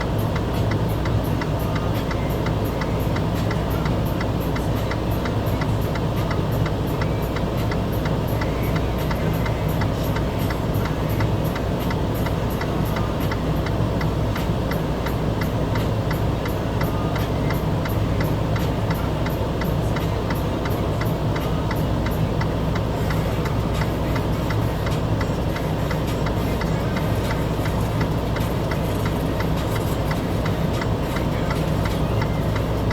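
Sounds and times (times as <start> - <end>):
engine idling: 0.0 - 32.9
fast even ticking: 5.2 - 32.9.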